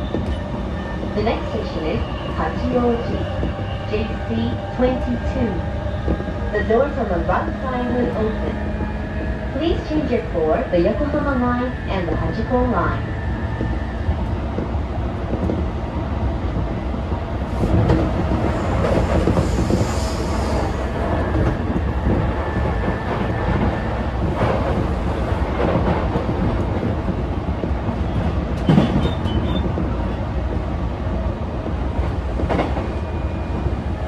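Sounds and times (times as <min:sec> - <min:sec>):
rail joint clicks: 0:00.0 - 0:15.7, 0:17.5 - 0:33.8
train wheels rumbling on rail: 0:00.0 - 0:34.0.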